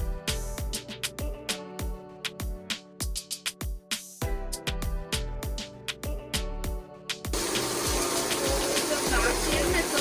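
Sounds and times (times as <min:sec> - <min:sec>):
music with drum beat: 0:00.0 - 0:10.0.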